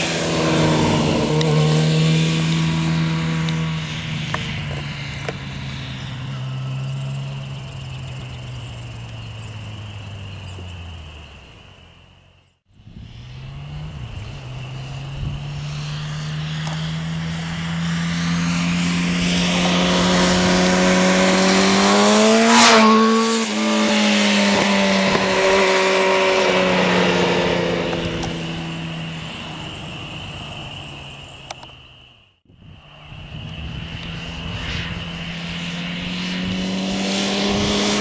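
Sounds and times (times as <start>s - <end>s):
motorcycle engine passing by: 0.0s - 11.4s, 12.8s - 30.1s, 33.6s - 38.0s.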